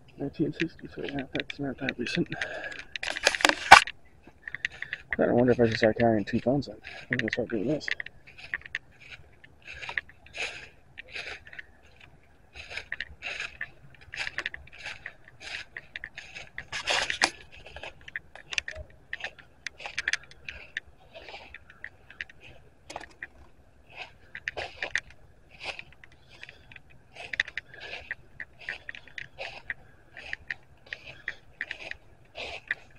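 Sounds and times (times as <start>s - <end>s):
footsteps in dry leaves: 4.8s - 32.9s.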